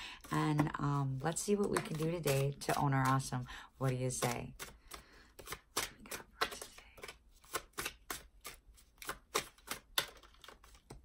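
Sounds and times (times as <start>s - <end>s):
cards being shuffled: 0.2s - 11.0s.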